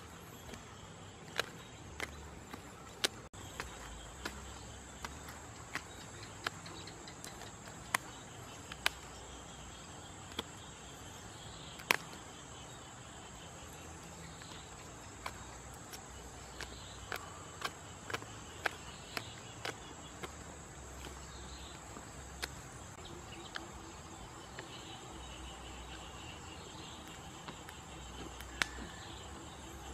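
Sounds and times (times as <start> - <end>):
high insect drone: 0.0 - 29.9.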